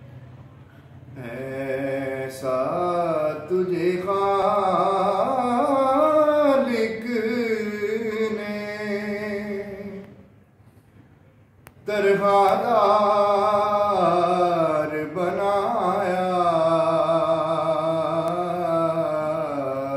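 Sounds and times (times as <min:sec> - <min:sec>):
man singing devotional poem: 0:01.2 - 0:10.2, 0:11.8 - 0:19.9.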